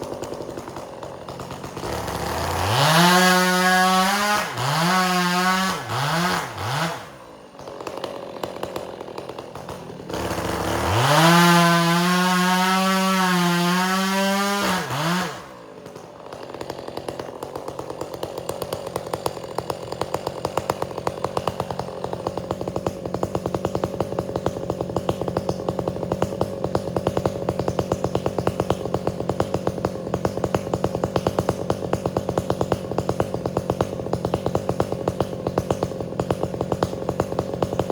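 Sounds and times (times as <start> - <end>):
chainsaw engine revving: 0.0 - 37.9.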